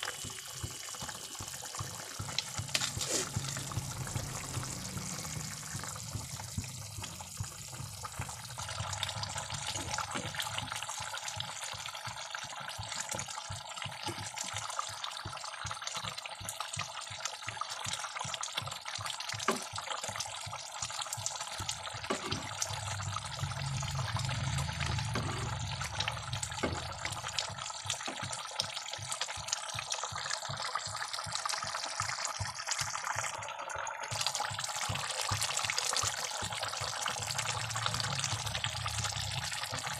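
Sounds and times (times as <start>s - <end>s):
curry bubbling in a pan: 0.0s - 39.9s.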